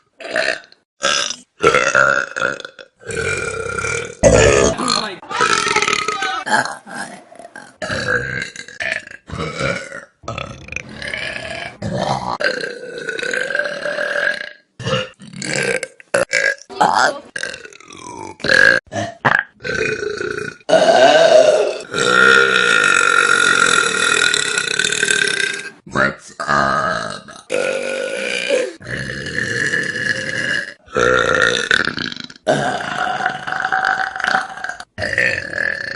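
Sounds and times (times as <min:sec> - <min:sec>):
people burping: 0:00.2 - 0:35.9.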